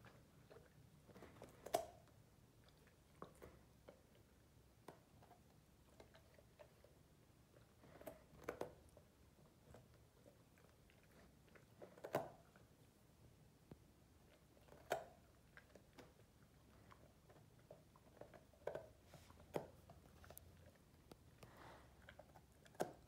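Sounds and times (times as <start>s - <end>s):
puppy crunching carrot: 0.0s - 13.0s, 14.2s - 23.0s.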